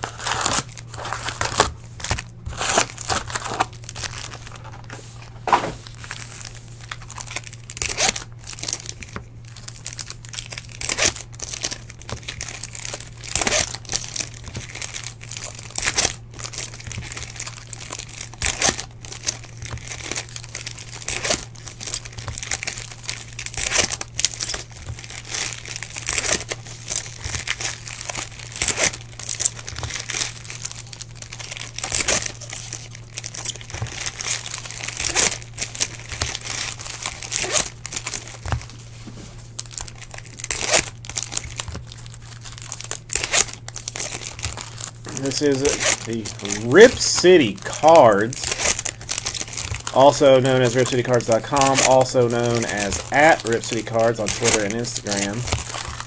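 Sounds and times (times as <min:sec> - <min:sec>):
card wrappers crinkling and tearing: 0:00.0 - 0:56.0
steady low hum: 0:00.0 - 0:56.0.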